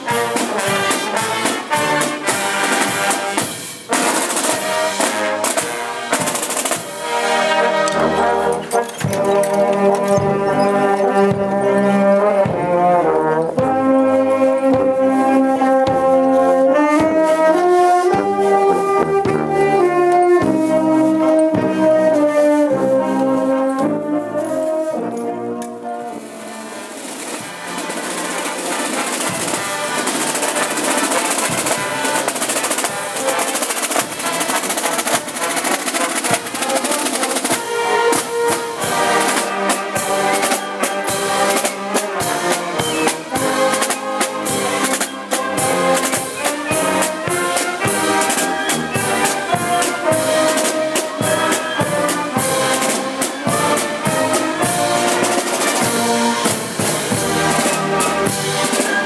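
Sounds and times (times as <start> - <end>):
drums and cymbals: 0.0 - 25.4, 26.1 - 59.0
marching brass band: 0.0 - 59.0.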